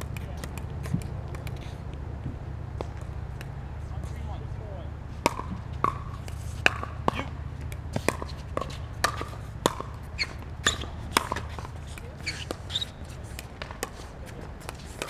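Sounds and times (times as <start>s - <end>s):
pickleball paddle hits and bounces: 0.0s - 4.5s, 5.2s - 15.0s.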